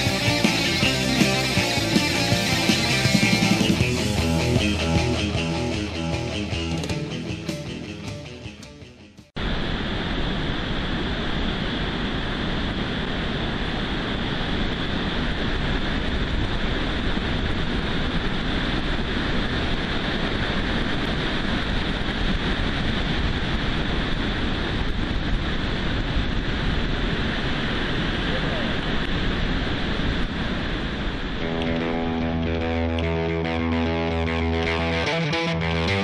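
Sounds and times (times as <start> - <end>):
heavy ocean surf breaking: 0.0 - 7.5, 9.4 - 36.0.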